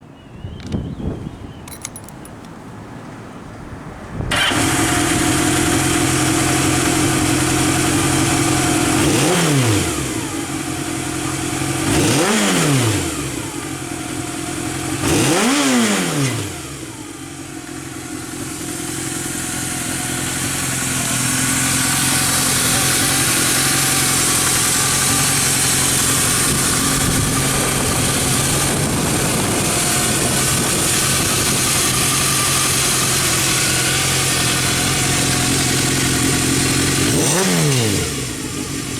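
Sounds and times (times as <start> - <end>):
motorcycle engine idling and revving: 4.2 - 38.9.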